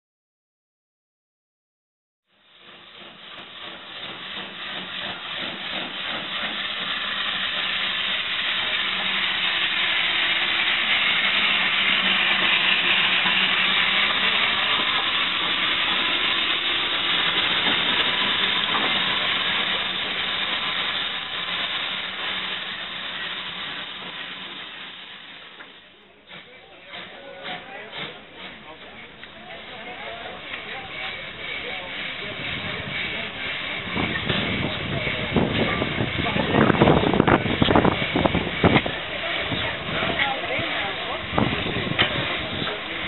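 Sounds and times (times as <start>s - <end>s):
steam locomotive hissing: 2.3s - 43.0s.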